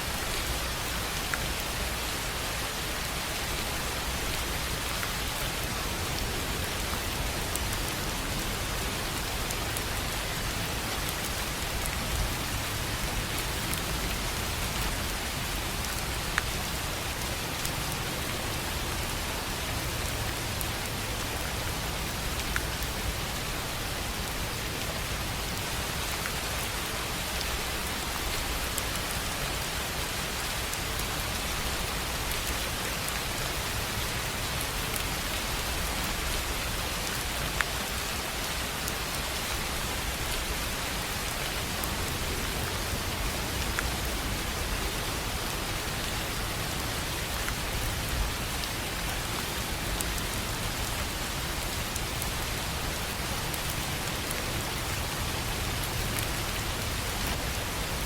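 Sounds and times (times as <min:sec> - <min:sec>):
rain on a tin roof: 0:00.0 - 0:58.0.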